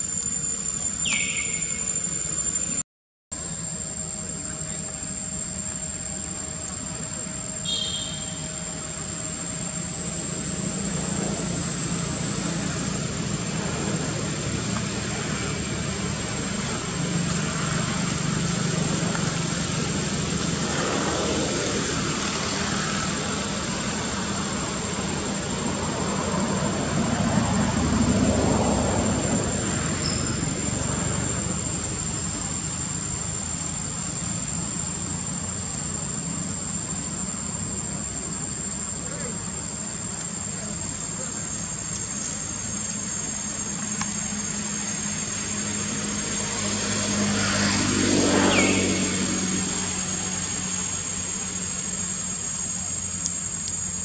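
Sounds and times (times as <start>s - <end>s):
thin high-pitched whine: 0.0s - 2.8s, 3.4s - 54.0s
vehicle engine running: 9.9s - 54.0s.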